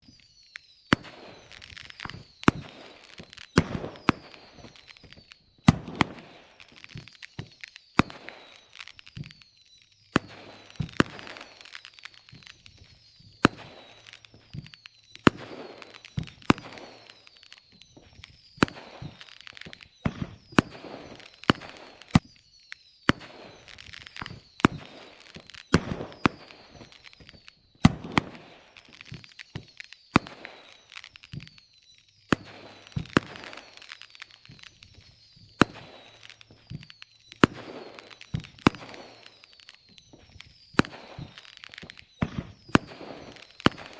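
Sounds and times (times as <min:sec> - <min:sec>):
fireworks bangs: 0:00.0 - 0:43.9
fireworks crackling: 0:00.0 - 0:43.9
fireworks whistles falling: 0:00.0 - 0:43.9.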